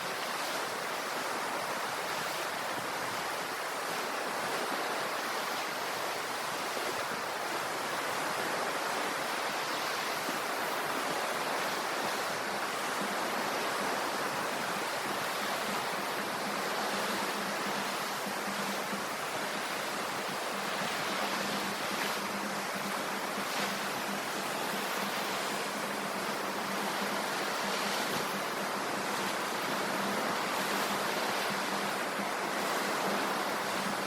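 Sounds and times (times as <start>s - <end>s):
ocean surf washing: 0.0s - 34.0s.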